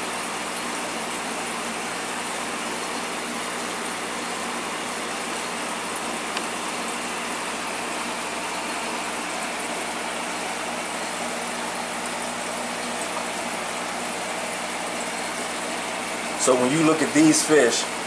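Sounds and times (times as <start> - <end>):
aquarium water and air rushing: 0.0 - 18.0
pump hum: 0.0 - 18.0.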